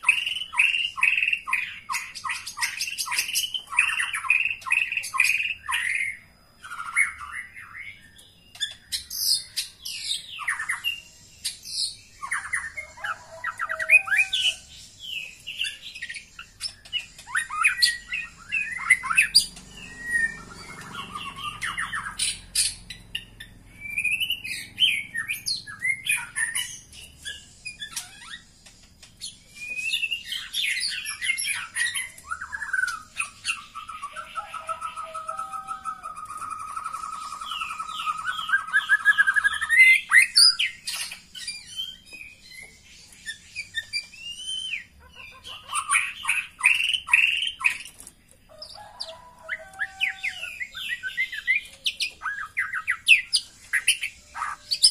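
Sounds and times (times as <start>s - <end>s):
bird whistling calls: 0.0s - 28.6s, 29.2s - 47.9s.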